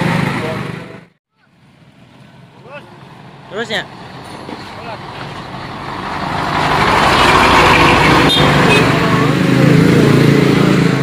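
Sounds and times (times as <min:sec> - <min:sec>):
diesel truck passing: 0:00.0 - 0:11.0.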